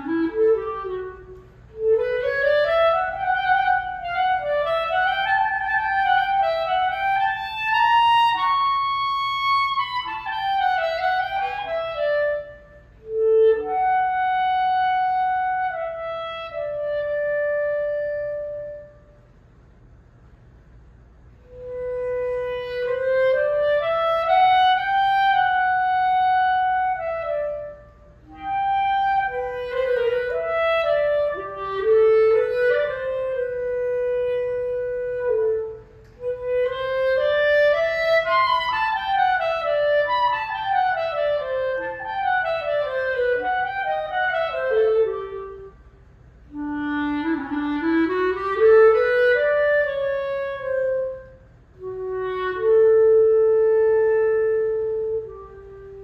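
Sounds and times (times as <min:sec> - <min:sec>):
solo clarinet playing: 0:00.0 - 0:19.4, 0:21.3 - 0:56.0.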